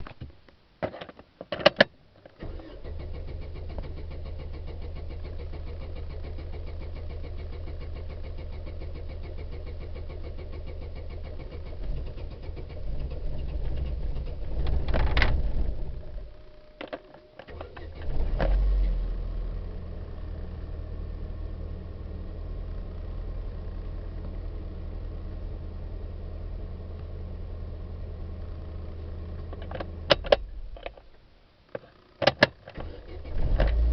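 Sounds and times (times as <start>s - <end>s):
car engine starting and running: 2.3s - 31.2s, 32.1s - 33.9s.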